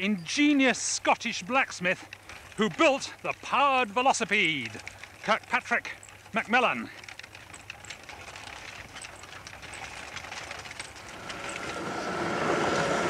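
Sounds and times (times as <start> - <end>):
small clicks: 0.0 - 12.9
wooden wheels rattling on road: 0.0 - 13.0.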